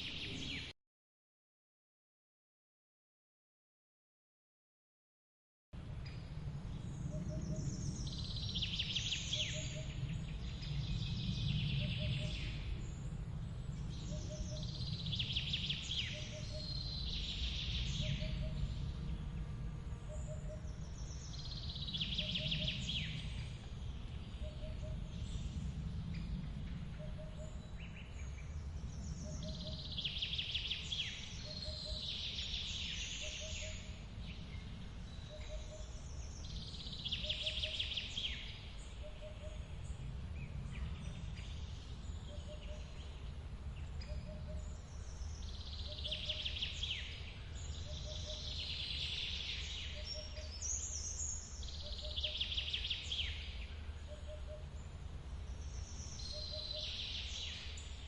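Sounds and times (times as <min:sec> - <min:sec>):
songbirds singing: 0:00.0 - 0:00.7, 0:05.8 - 0:58.0.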